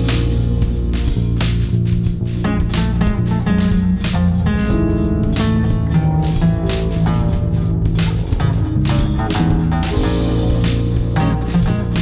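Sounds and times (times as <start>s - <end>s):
background music with guitar and bass: 0.0s - 12.0s.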